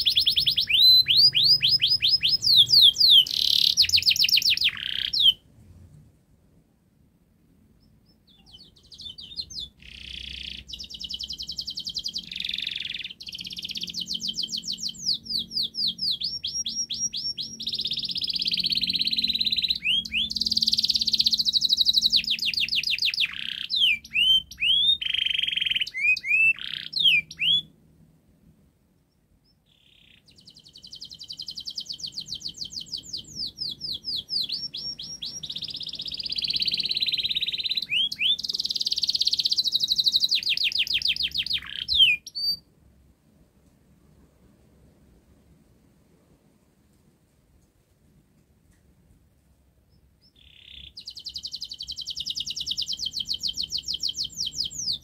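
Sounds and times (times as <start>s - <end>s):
canary singing trills: 0.0s - 5.4s, 7.7s - 27.7s, 29.0s - 42.7s, 49.9s - 55.0s.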